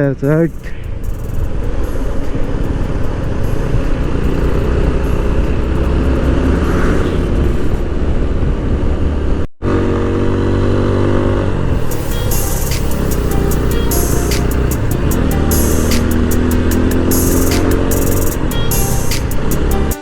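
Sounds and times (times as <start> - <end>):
motorcycle engine running: 0.0 - 8.6, 9.6 - 20.0.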